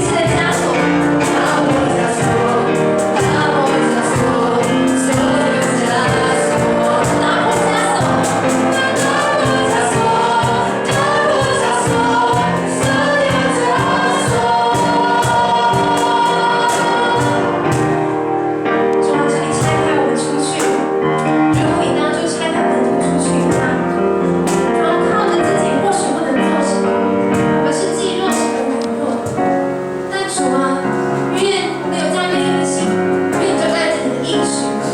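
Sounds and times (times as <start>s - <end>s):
instrumental accompaniment: 0.0s - 34.9s
youth choir singing gospel: 0.0s - 34.9s.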